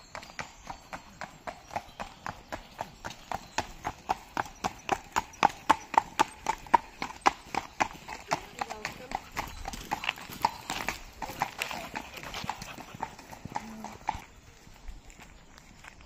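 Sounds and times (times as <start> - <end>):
horse hooves clip-clopping on tarmac: 0.0 - 16.0.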